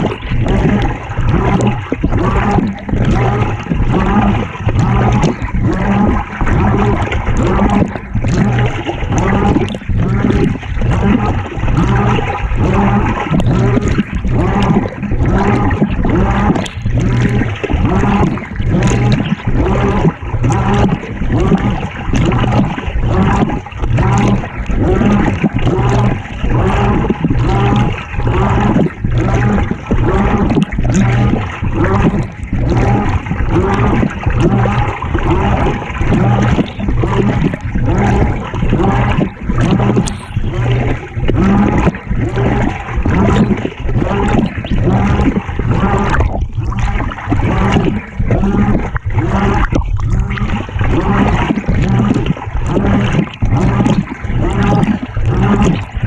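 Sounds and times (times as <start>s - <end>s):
low hum: 0.0s - 56.0s
water churning in washing machine: 0.0s - 56.0s.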